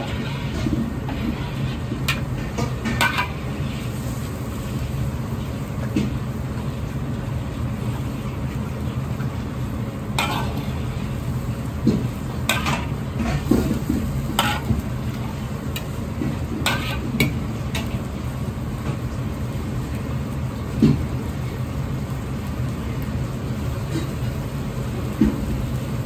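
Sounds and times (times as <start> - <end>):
ladle stirring sauce in a wok: 0.0 - 22.8.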